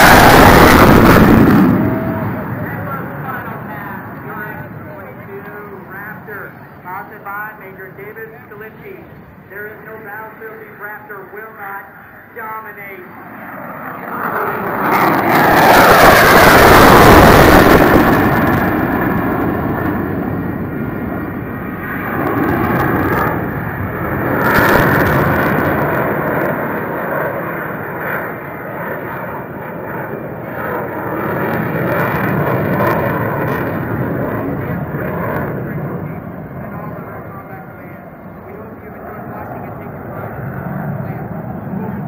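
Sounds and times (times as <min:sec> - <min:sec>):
fighter jet roar: 0:00.0 - 0:42.0.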